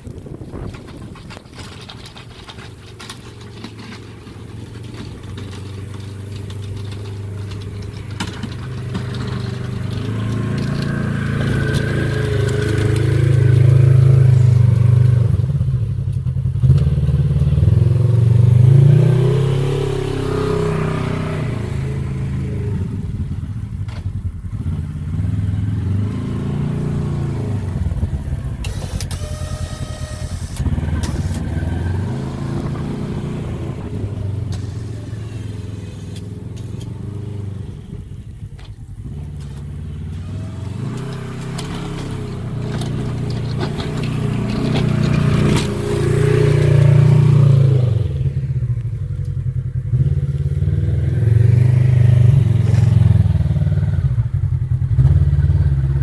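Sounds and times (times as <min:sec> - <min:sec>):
side-by-side engine revving: 0:00.0 - 0:56.0.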